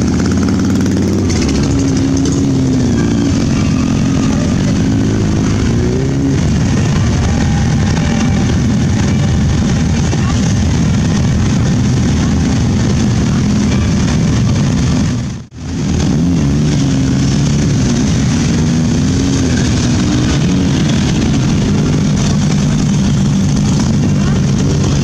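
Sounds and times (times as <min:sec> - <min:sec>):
motorcycles riding past: 0:00.0 - 0:25.0.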